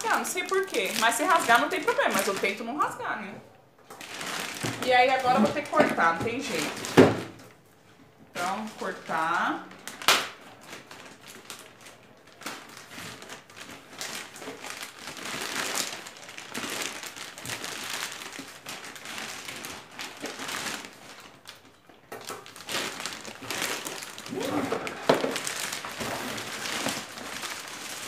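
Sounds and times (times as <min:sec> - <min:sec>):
plastic bag crinkling: 0:00.0 - 0:03.2, 0:03.9 - 0:07.5, 0:08.3 - 0:28.0.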